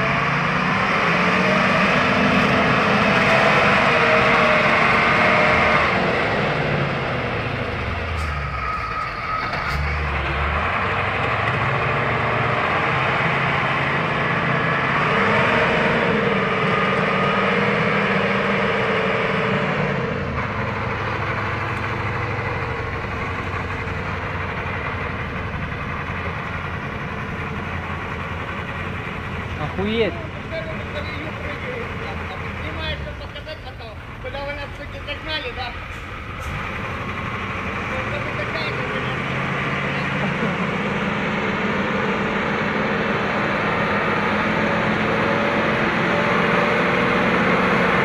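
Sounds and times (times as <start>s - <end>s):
truck diesel engine labouring: 0.0s - 48.0s.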